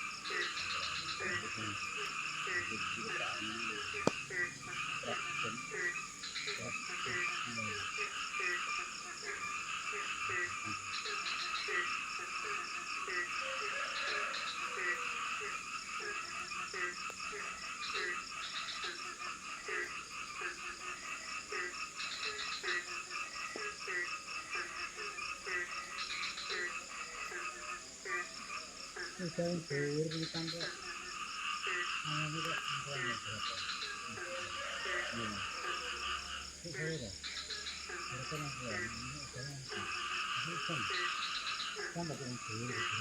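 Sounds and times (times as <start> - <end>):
frog chorus: 0.0 - 43.0
frog low falling croaks: 0.0 - 43.0
insects high buzz: 0.0 - 43.0.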